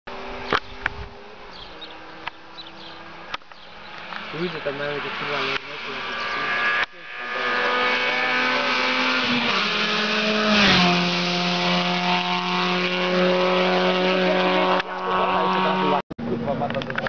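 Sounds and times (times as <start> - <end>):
rally car engine high note: 0.1 - 16.0
rally car engine passing by: 0.1 - 16.6.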